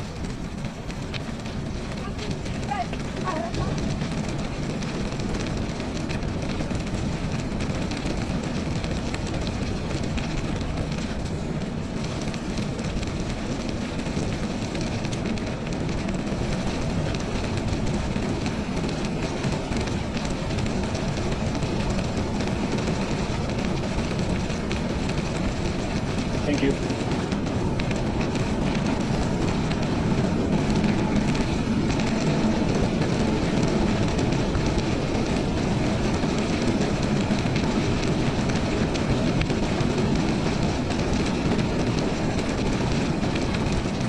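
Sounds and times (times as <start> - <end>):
bike rolling on trail: 0.0 - 44.0
wind buffeting microphone: 0.0 - 44.0.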